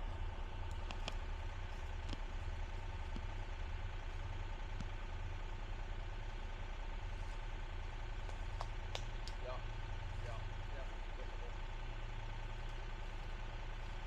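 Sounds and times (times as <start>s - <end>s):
diesel engine idling: 0.0s - 14.0s
faint engine whine: 0.0s - 14.0s.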